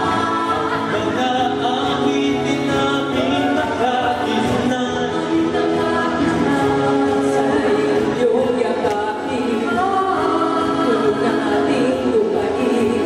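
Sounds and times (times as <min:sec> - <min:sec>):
voices singing in harmony: 0:00.0 - 0:13.0.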